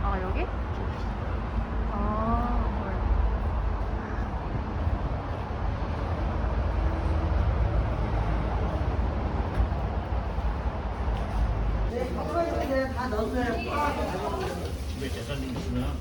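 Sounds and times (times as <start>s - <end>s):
vehicle driving rumble: 0.0s - 16.0s.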